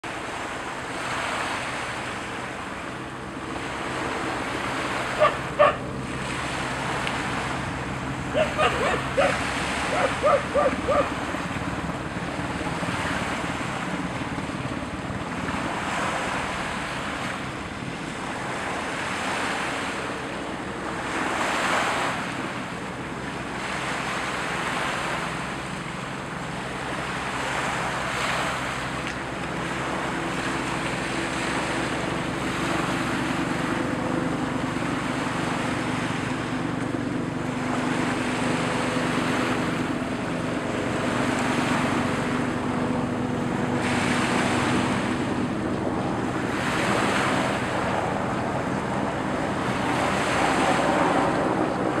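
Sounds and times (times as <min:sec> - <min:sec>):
helicopter hovering hum: 0:00.0 - 0:52.0
waves washing on shore: 0:00.0 - 0:52.0
wind on microphone: 0:00.4 - 0:23.5, 0:29.5 - 0:52.0.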